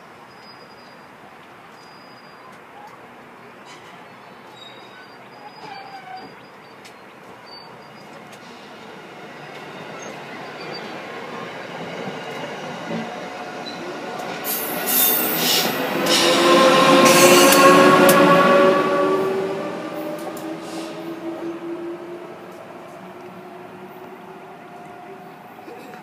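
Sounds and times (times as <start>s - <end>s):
train wheels rolling on rails: 2.5s - 26.0s.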